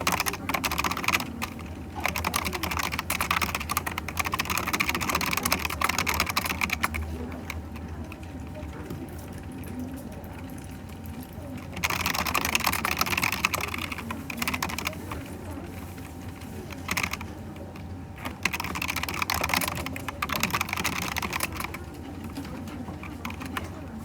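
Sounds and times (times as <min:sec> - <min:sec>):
typing on computer keyboard: 0:00.0 - 0:24.0.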